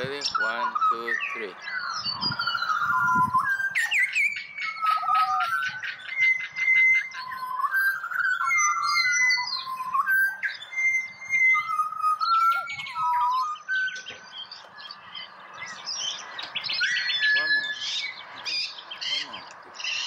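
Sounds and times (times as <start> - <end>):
birds whistling and trilling: 0.0 - 20.0.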